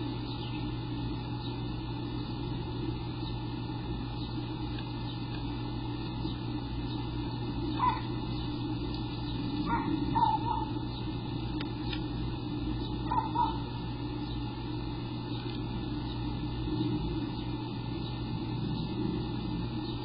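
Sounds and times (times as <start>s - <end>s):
nestlings begging chirps: 0.0s - 20.0s
steady low hum: 0.0s - 20.0s.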